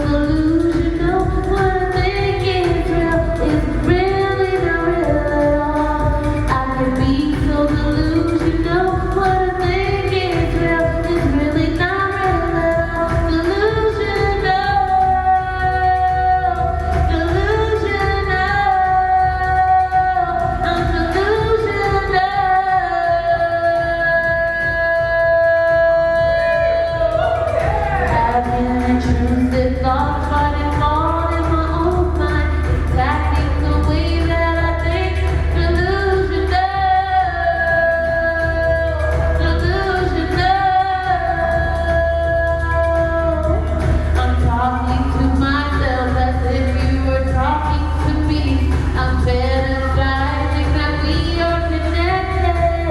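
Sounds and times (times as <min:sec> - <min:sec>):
electronic pop backing with bass: 0:00.0 - 0:52.9.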